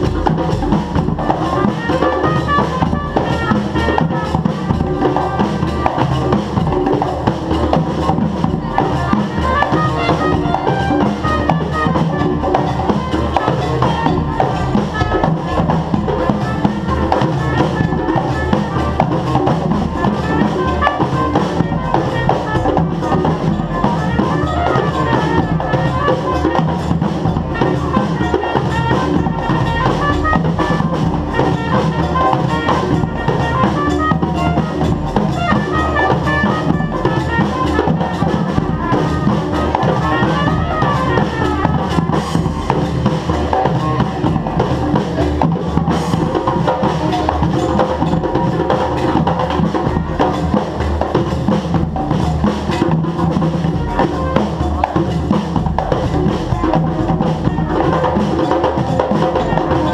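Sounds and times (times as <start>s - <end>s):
brass instruments playing melody: 0.0s - 59.9s
drums and percussion beat: 0.0s - 59.9s.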